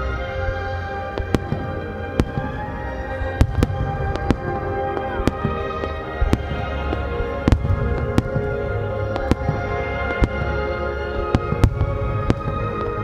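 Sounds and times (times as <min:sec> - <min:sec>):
music with held notes: 0:00.0 - 0:13.0
firework shells bursting: 0:01.1 - 0:13.0.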